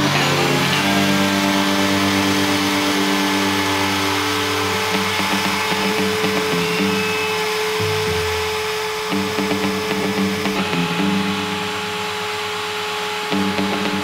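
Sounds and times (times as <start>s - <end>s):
router whining while cutting wood: 0.0s - 14.0s.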